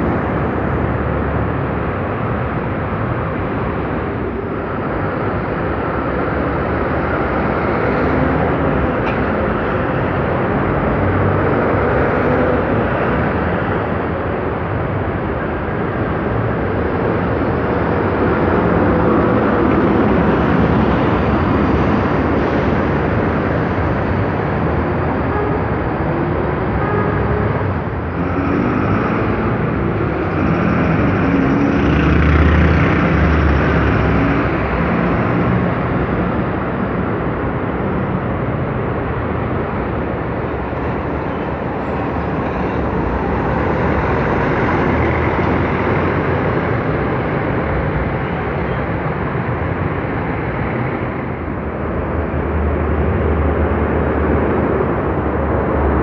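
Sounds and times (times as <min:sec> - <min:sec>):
bus engine rumbling past: 0:00.0 - 0:56.0
road traffic: 0:00.0 - 0:56.0.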